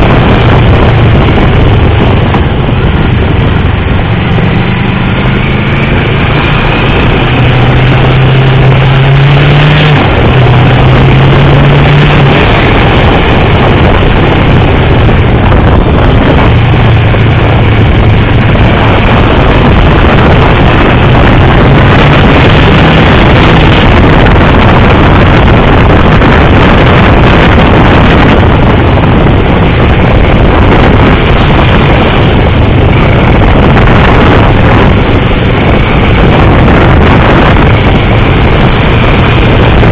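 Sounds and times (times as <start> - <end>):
motorcycle engine running hard: 0.0 - 39.9
wind rush over microphone: 0.0 - 39.9.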